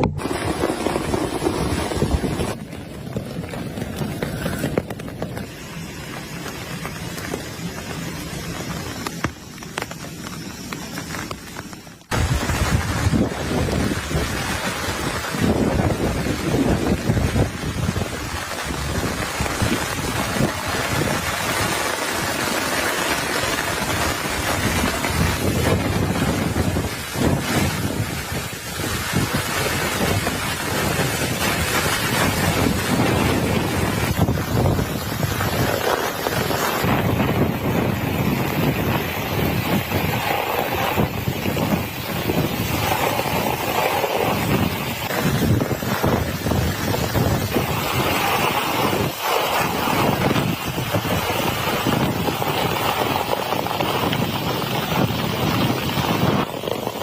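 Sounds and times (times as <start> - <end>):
heavy rain falling: 0.0 - 57.0
wind gusting against microphone: 0.0 - 57.0.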